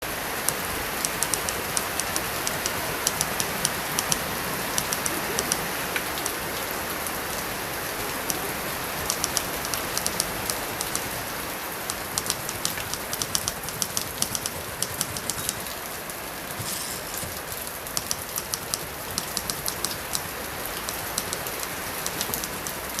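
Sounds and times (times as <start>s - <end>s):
light rain: 0.0s - 23.0s
typewriter keys clacking: 0.8s - 6.3s, 8.2s - 22.8s.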